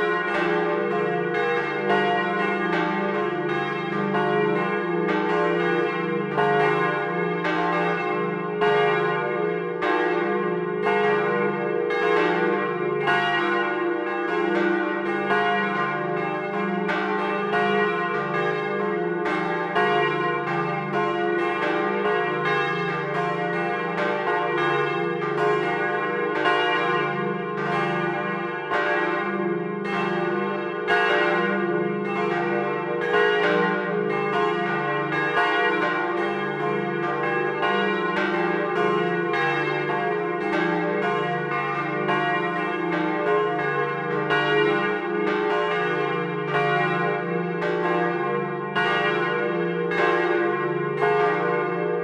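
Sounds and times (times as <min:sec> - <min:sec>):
church bells pealing: 0:00.0 - 0:52.0.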